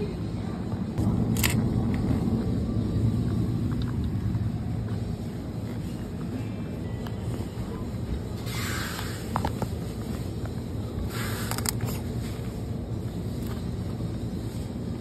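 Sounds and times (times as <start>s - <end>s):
supermarket background hum: 0.0s - 15.0s.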